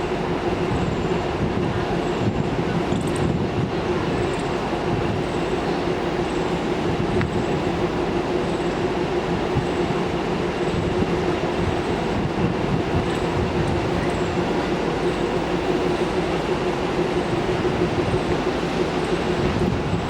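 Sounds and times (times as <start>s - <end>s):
constant train hum: 0.0s - 20.0s
train wheels rushing on rails: 0.0s - 20.0s.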